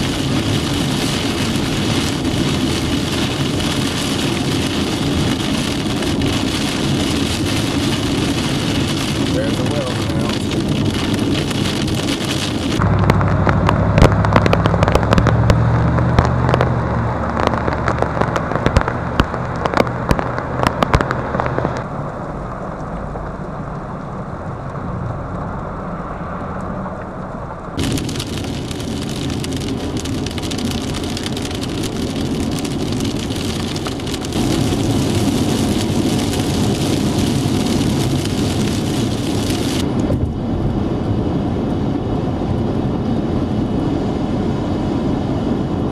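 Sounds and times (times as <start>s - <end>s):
heavy rain: 0.0s - 25.0s, 27.3s - 40.4s
vehicles driving through rain: 0.0s - 43.0s.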